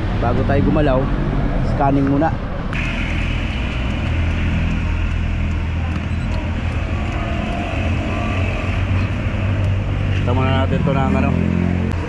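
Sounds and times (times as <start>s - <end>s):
car engine idling: 0.2s - 11.3s.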